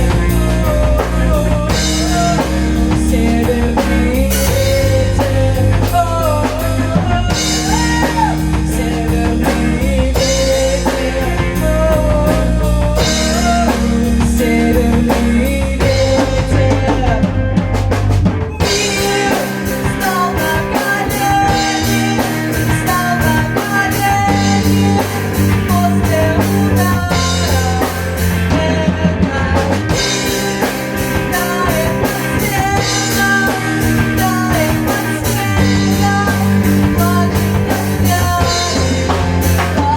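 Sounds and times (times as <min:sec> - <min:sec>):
rock music: 0:00.0 - 0:39.9.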